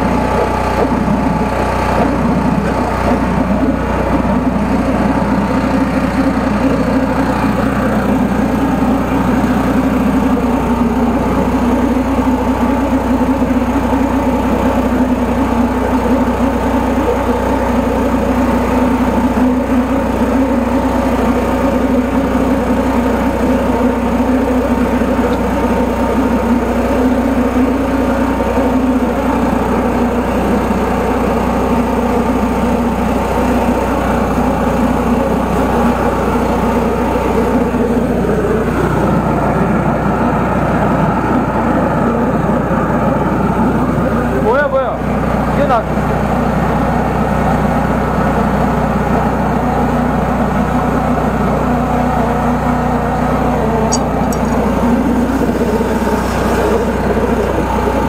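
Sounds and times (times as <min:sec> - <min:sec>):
sewer jetter engine and pump: 0:00.0 - 0:58.0.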